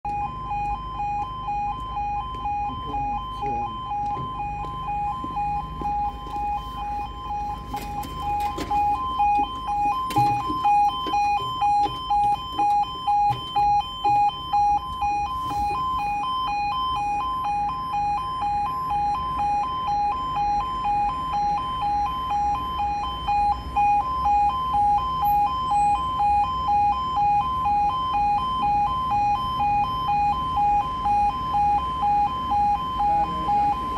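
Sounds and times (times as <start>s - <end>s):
two-tone electronic alarm: 0.0s - 33.9s.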